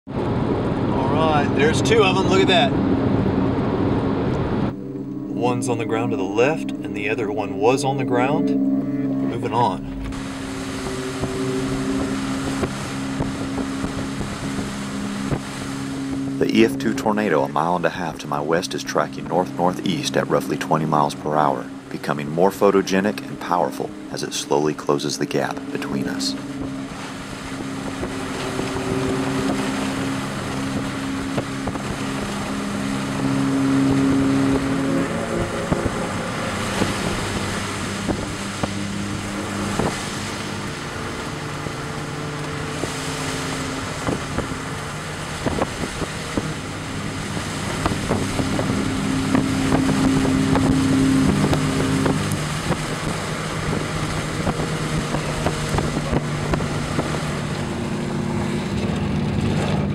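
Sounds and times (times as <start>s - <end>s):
road and wind noise: 0.0s - 59.9s
low held tones: 0.7s - 59.9s.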